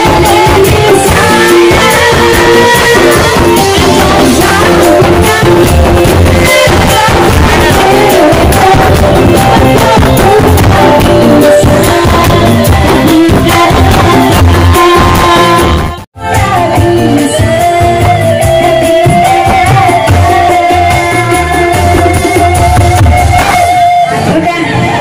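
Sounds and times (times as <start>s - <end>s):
person singing: 0.0s - 25.0s.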